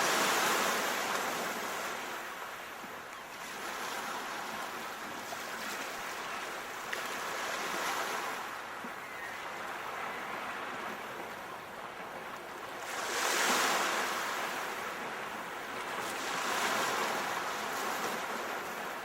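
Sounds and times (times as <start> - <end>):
sea waves washing in: 0.0 - 19.0.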